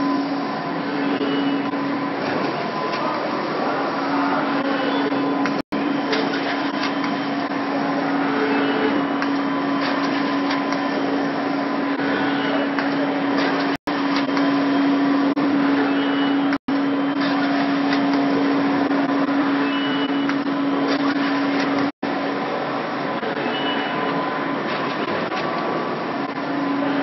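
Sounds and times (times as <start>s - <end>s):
printer mechanical whir: 0.0s - 27.0s.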